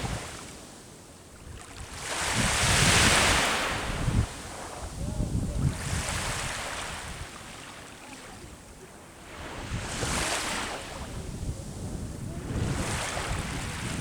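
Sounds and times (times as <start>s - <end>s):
wind rumble on microphone: 0.0s - 0.5s, 1.4s - 7.6s, 8.3s - 14.0s
sea waves washing on shore: 0.0s - 14.0s.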